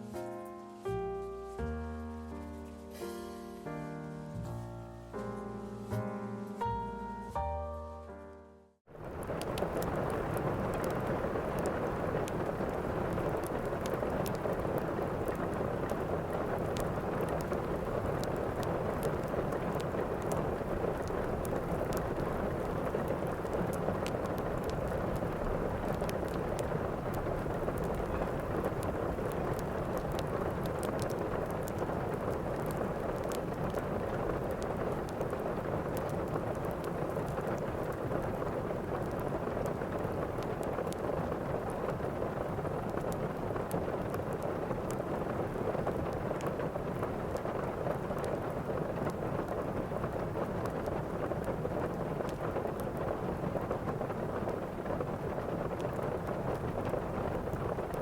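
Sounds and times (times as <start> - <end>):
fireplace crackling: 0.0 - 58.0
heavy rain: 8.9 - 58.0
low thunder rumble: 9.0 - 58.0.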